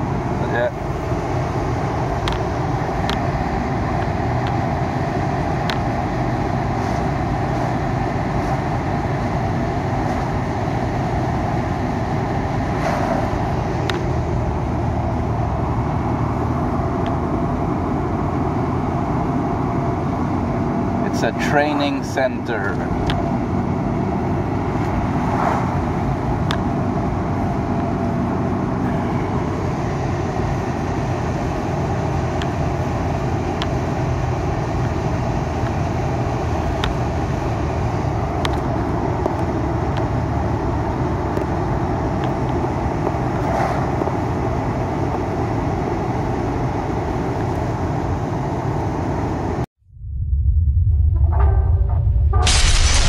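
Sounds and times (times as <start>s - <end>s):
car road and engine noise: 0.0s - 49.7s.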